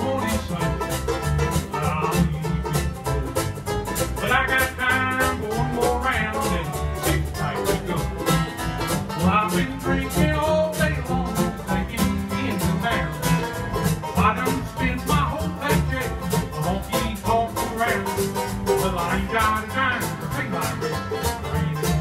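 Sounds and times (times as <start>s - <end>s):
bluegrass band playing: 0.0s - 22.0s.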